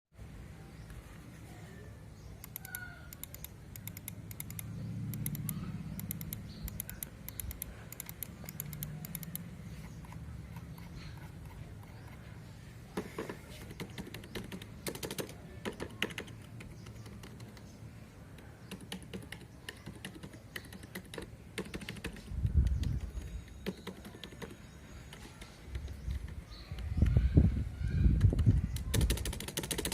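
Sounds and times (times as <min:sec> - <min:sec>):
keyboard typing: 0:02.4 - 0:12.3, 0:12.9 - 0:27.1, 0:28.1 - 0:29.9.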